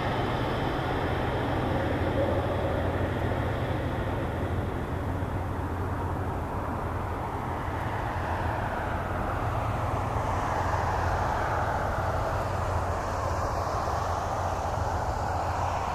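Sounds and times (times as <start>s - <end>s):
distant jet engine rush: 0.0s - 15.9s.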